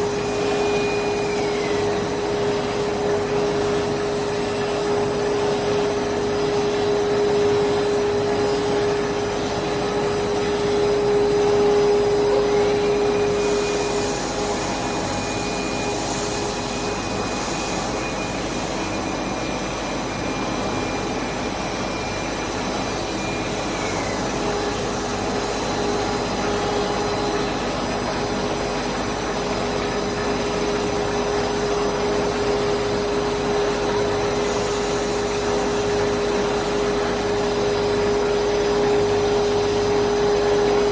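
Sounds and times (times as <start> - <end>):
production line machinery whirring: 0.0 - 40.9
steady hum tone: 0.0 - 40.9.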